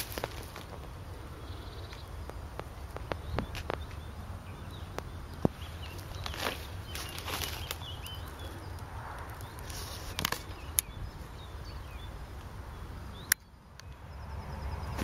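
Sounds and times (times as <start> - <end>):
small birds chirping: 0.0 - 15.0
wind rumble on microphone: 0.0 - 15.0.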